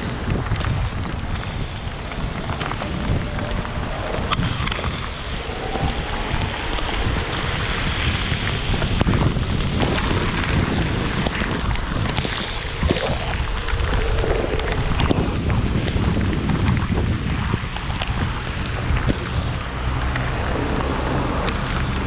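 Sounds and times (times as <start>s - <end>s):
rain hiss: 0.0s - 22.0s
tyres on wet road: 0.0s - 22.0s
wind buffeting microphone: 0.0s - 22.0s.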